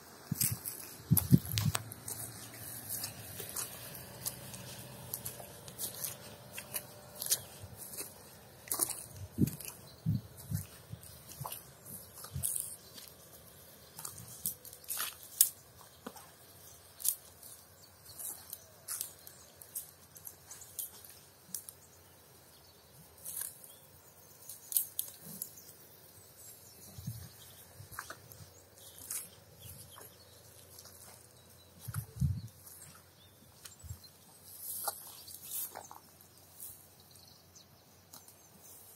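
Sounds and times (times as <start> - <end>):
cow crunching grass: 0.2 - 21.8, 26.6 - 36.8.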